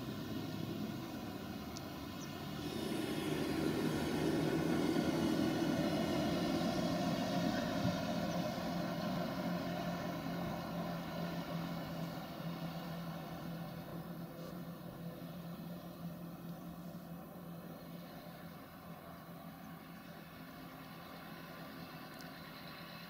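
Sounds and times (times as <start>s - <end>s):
diesel engine driving past: 0.0s - 23.0s.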